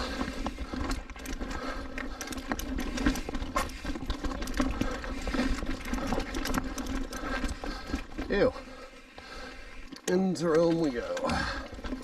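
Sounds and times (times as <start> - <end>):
bike tyres and frame rattling: 0.0 - 12.0.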